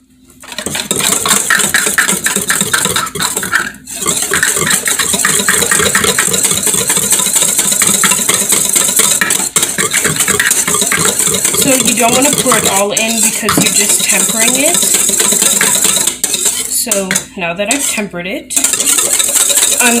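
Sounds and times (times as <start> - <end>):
whisk beating against bowl: 0.4 - 20.0.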